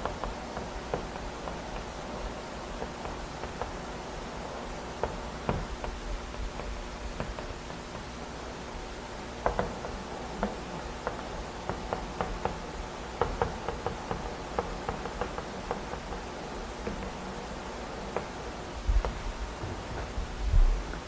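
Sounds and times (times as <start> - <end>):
chalk tapping on a blackboard: 0.0 - 8.4, 9.3 - 21.0
faint steady hiss: 0.0 - 21.0.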